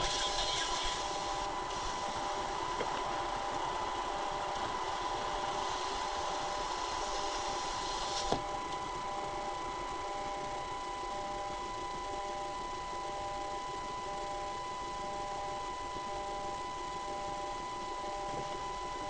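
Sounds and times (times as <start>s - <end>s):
thin electrical whine: 0.0s - 19.0s.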